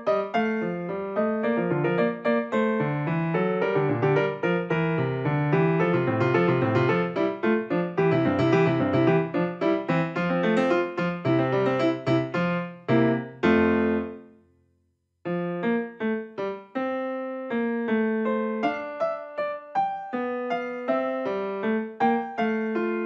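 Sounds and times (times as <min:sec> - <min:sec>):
piano music: 0:00.0 - 0:14.4, 0:15.3 - 0:23.0.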